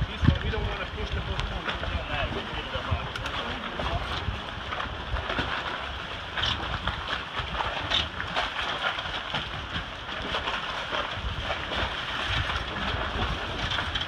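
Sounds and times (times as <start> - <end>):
gusty wind buffeting microphone: 0.0 - 14.0
water splashing around pilings: 0.0 - 14.0.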